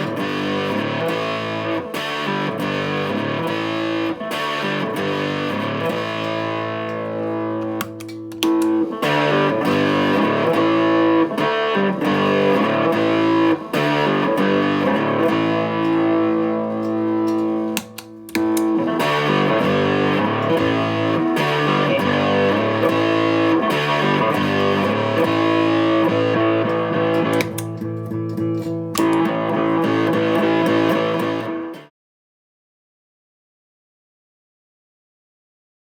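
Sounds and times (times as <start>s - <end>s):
distorted fuzz electric guitar chords: 0.0s - 31.9s.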